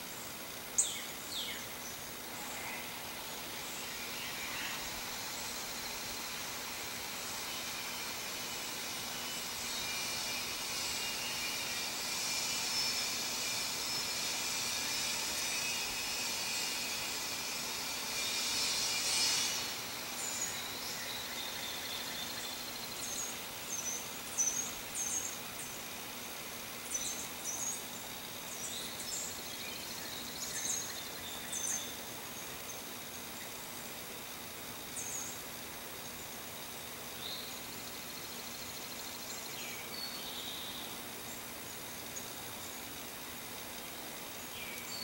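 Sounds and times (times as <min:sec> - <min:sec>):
insects buzzing and trilling: 0:00.0 - 0:45.0.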